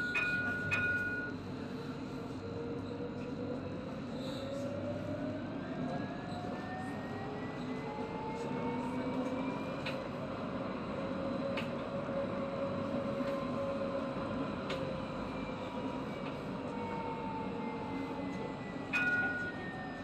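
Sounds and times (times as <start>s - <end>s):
tram motors whining: 0.0s - 20.0s.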